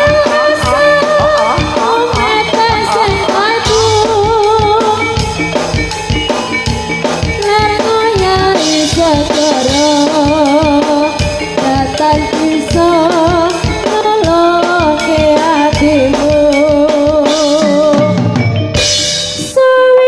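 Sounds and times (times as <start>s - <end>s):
woman singing with vibrato: 0.0s - 5.4s, 7.4s - 18.2s, 19.4s - 20.0s
steady drum beat: 0.0s - 19.6s.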